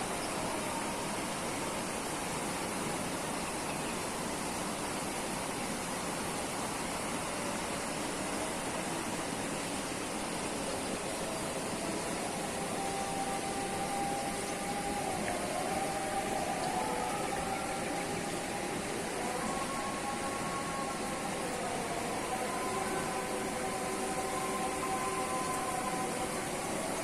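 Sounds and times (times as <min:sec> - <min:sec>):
faint hum: 0:00.0 - 0:27.0
fast-flowing river rushing: 0:00.0 - 0:27.0.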